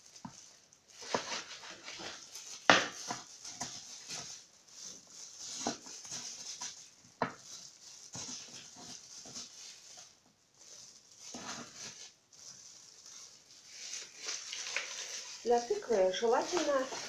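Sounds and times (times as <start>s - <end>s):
plastic glove rustling: 0.0s - 17.0s.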